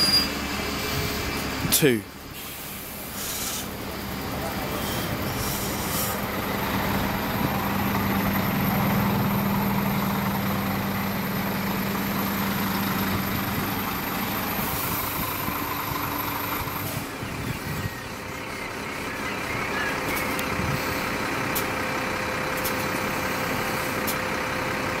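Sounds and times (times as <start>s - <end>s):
diesel engine idling: 0.0s - 25.0s
street noise: 0.0s - 25.0s.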